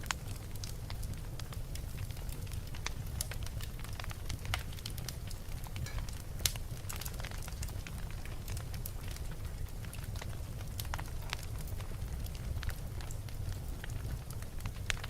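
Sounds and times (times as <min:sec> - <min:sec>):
fire crackling: 0:00.0 - 0:15.0
flames rumbling: 0:00.0 - 0:15.0.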